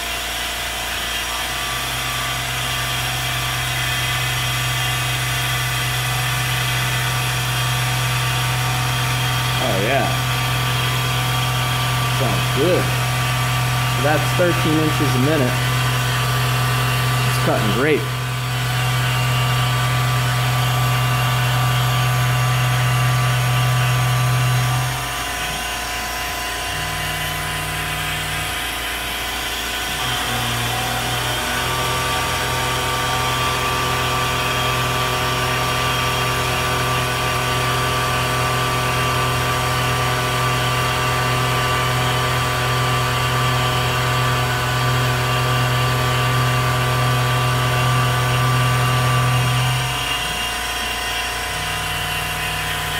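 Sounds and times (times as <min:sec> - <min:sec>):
milling machine cutting metal: 0:00.0 - 0:52.9.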